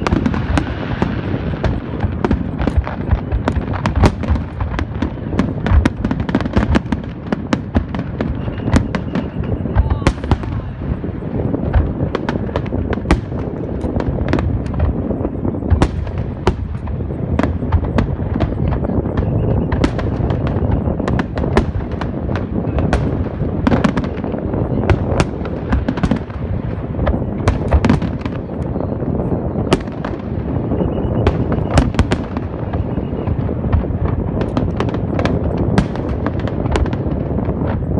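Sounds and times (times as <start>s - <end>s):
fireworks booming: 0.0s - 37.9s
fireworks sharp cracks: 0.0s - 37.9s.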